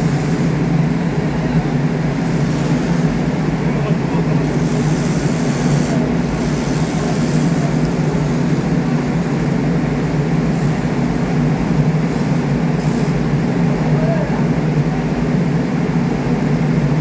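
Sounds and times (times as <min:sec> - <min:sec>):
machinery droning: 0:00.0 - 0:14.4.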